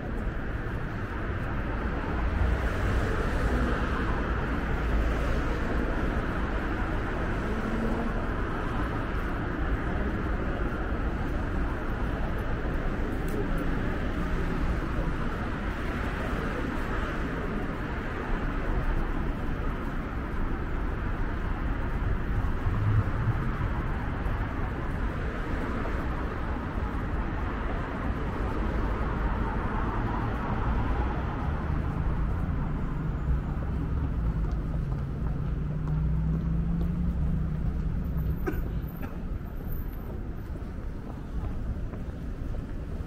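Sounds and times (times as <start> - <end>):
road traffic: 0.0 - 43.0.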